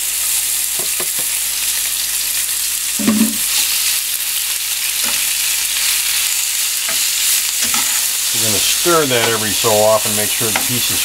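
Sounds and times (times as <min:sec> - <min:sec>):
meat sizzling in frying pan: 0:00.0 - 0:11.0.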